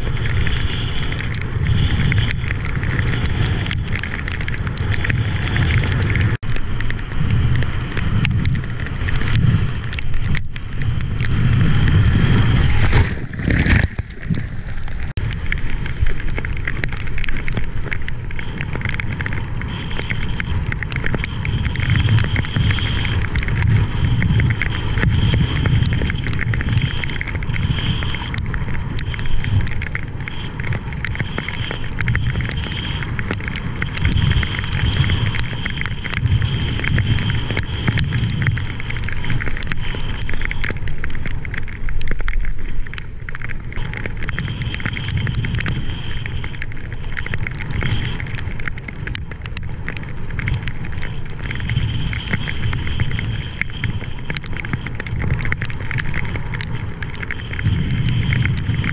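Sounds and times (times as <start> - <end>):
scattered crackles: 0.0 - 58.9
wind rushing over microphone: 0.0 - 58.9.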